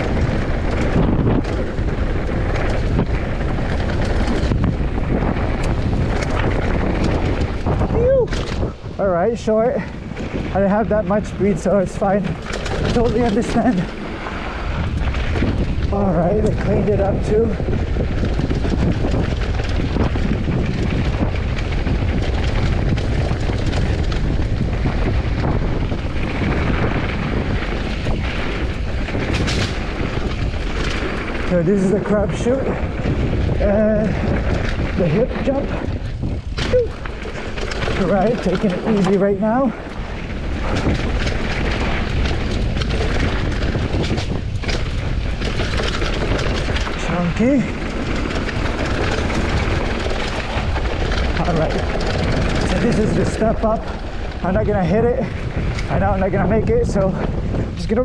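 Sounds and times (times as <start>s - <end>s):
bike knocking and rattling: 0.0s - 58.0s
tyres rumbling over dirt and rock: 0.0s - 58.0s
wind buffeting microphone: 0.0s - 58.0s.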